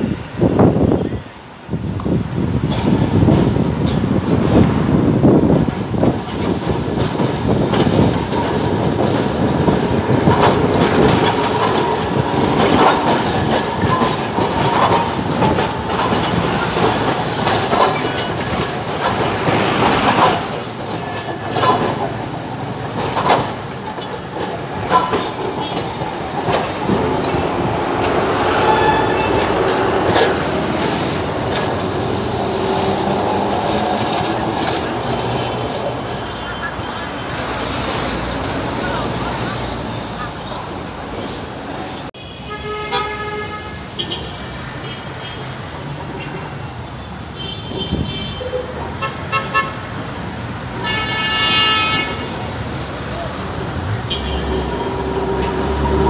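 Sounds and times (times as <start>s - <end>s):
tram wheels clattering on rails: 0.0s - 56.0s.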